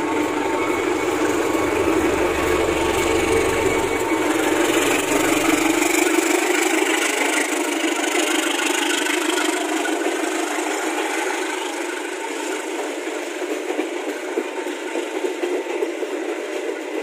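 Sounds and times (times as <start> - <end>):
diesel locomotive engine: 0.0 - 17.0
train coaches rolling on rails: 0.0 - 17.0.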